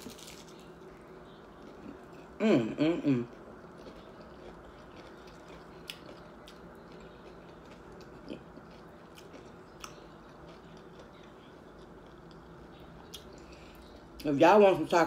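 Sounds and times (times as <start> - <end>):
chewing crunchy taco: 0.0 - 14.3.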